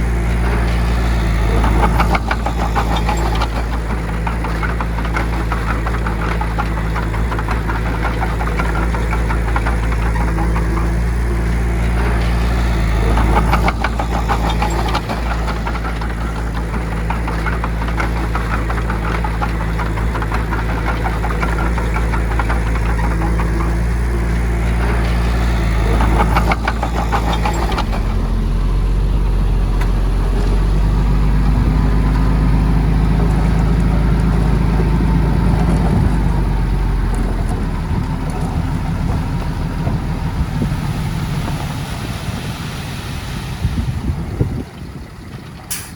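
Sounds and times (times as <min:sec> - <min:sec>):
rapid clattering: 0:00.0 - 0:42.7
heavy diesel engine running: 0:00.0 - 0:45.9.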